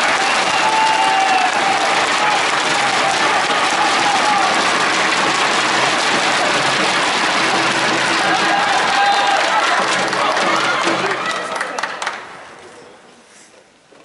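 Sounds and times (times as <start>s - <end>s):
spectators applauding: 0.0s - 12.5s.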